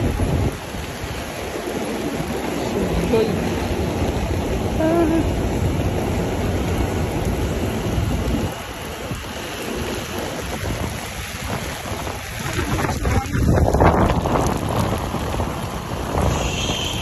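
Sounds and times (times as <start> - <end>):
heavy rain on an umbrella: 0.0 - 17.0
rain on wet pavement: 0.0 - 17.0.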